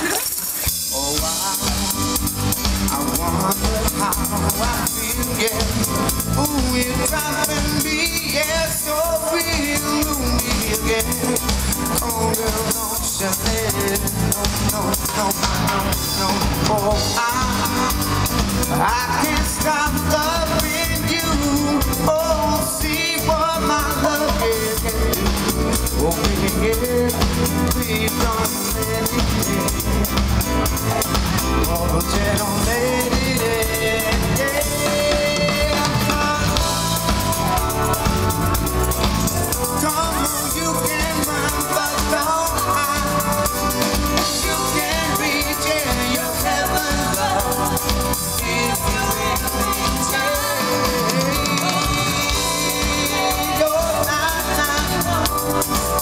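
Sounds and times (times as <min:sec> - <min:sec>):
drum kit: 0:00.0 - 0:56.0
electric guitar: 0:00.0 - 0:56.0
man singing: 0:00.0 - 0:56.0.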